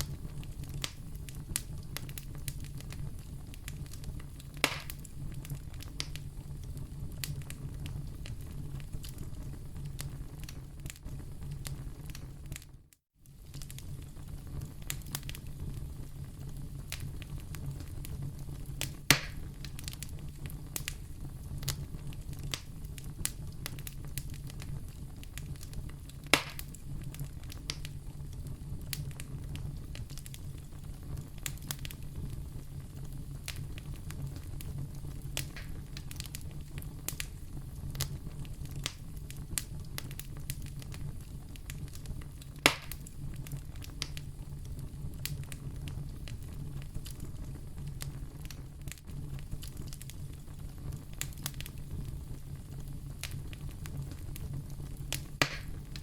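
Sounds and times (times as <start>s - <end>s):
loud fire pops: 0.0s - 12.7s, 13.3s - 56.0s
wood fire crackling: 0.0s - 56.0s.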